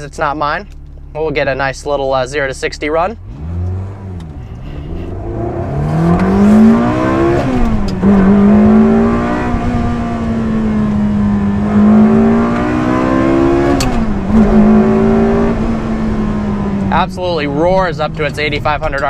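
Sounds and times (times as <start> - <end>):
sports car accelerating through gears: 3.2 - 19.0.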